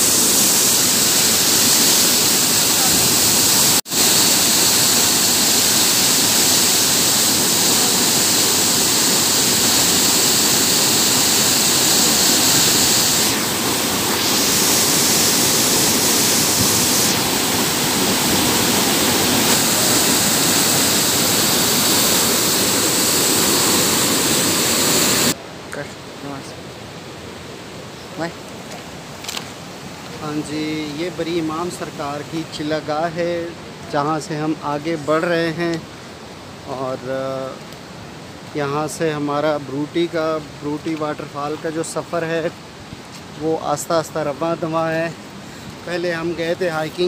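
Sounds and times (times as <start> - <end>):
waterfall rushing: 0.0 - 25.4, 26.0 - 47.0.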